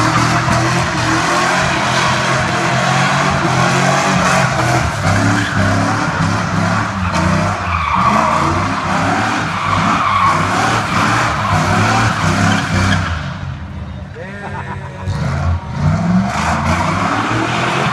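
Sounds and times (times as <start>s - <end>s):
tires squealing on pavement: 0.0s - 13.6s, 15.0s - 17.9s
truck engine at high revs: 0.0s - 13.7s, 14.5s - 17.9s.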